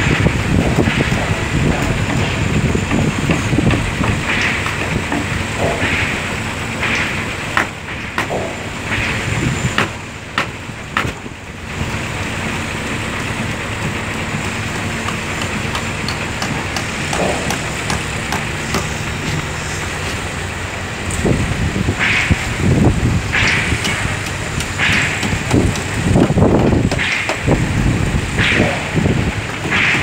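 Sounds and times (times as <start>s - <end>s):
engine running with low hum: 0.0s - 30.0s.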